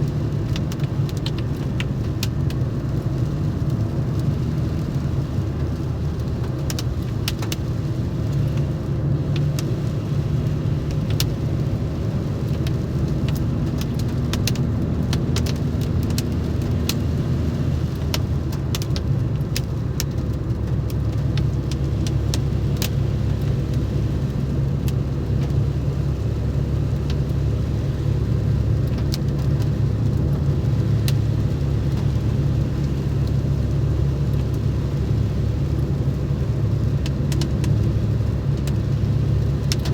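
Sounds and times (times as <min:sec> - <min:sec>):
raindrops ticking on vehicle: 0:00.0 - 0:39.9.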